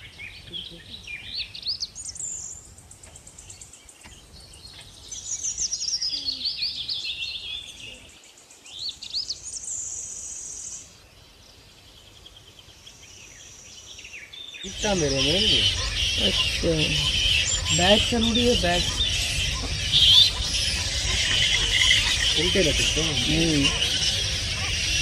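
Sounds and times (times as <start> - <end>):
birds chirping and calling: 0.0 - 25.0.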